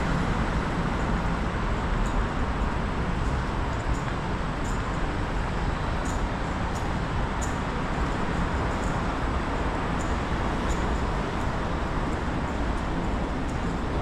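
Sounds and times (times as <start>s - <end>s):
metro station ambience: 0.0s - 14.0s
road traffic noise: 0.0s - 14.0s.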